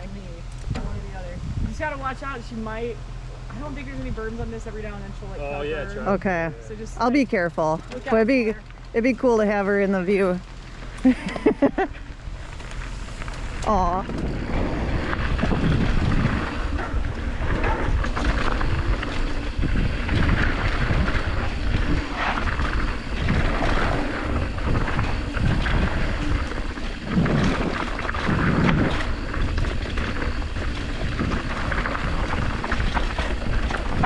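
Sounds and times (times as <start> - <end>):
wind buffeting microphone: 0.0 - 5.2, 6.2 - 34.0
bike tyres rumbling and rattling: 0.0 - 5.3, 6.1 - 34.0.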